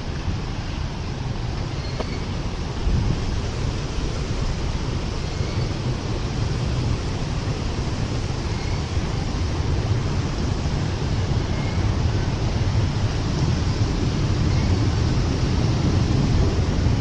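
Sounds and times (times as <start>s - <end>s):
train rumbling over a bridge: 0.0s - 17.0s.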